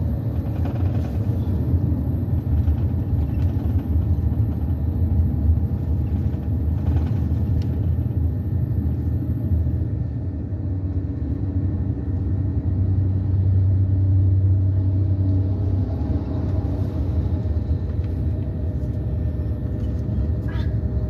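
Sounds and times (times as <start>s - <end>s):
road vehicle engine rumble: 0.0s - 21.0s.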